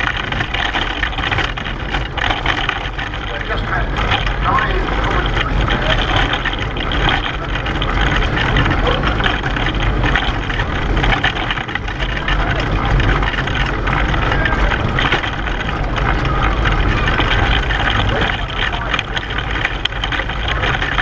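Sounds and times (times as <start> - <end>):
pedal car rumbling on road: 0.0 - 21.0
wheels and frame rattling: 0.0 - 21.0.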